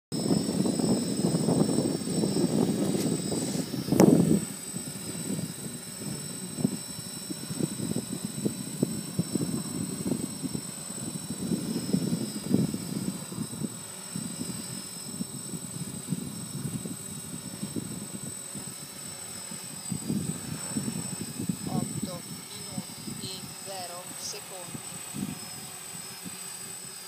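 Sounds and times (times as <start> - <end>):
drone rotors buzzing: 0.1 - 27.0
wind buffeting microphone: 0.1 - 27.0.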